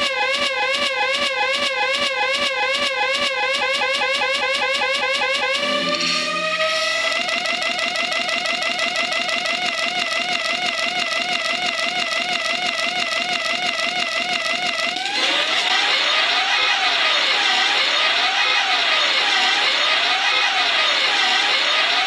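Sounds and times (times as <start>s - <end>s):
electronic siren warbling: 0.0s - 22.0s.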